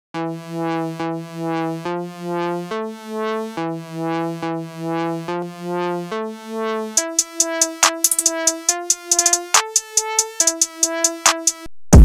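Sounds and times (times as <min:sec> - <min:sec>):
synthesizer chords: 0:00.2 - 0:11.7.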